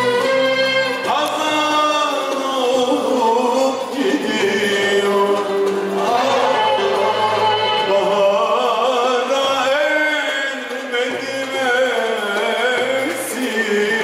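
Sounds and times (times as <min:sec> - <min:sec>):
string ensemble playing: 0:00.0 - 0:14.0
man singing: 0:00.8 - 0:14.0.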